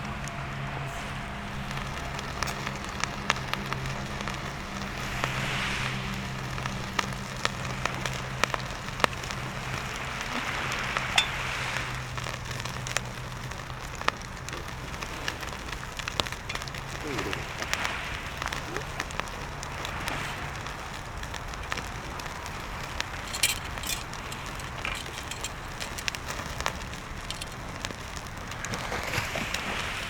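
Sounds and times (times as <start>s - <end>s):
bonfire crackling and popping: 0.0s - 30.0s
steady hiss: 0.0s - 30.0s.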